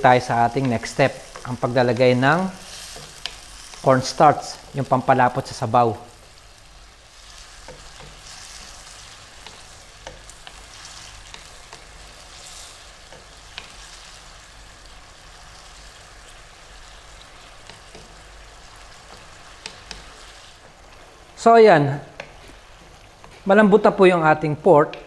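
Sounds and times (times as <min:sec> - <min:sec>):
pork sizzling in a wok: 0:00.0 - 0:25.0
wooden spatula stirring pan: 0:00.0 - 0:25.0.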